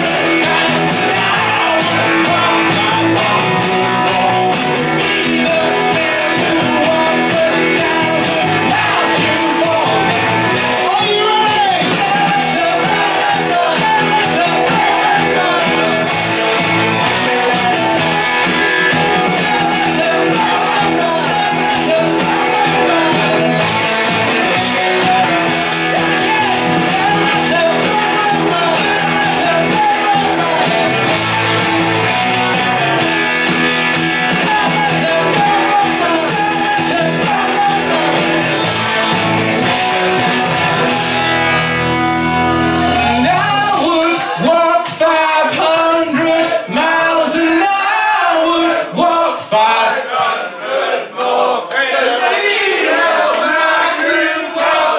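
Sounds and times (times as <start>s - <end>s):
voices singing unaccompanied: 0.0s - 41.6s, 42.2s - 54.9s
live rock band playing: 0.0s - 48.0s
male lead vocal: 0.0s - 50.2s.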